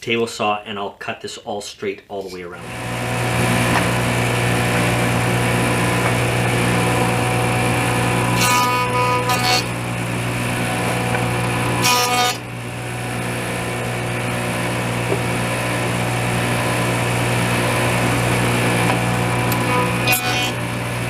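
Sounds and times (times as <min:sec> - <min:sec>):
jointer motor humming: 0:02.6 - 0:21.0.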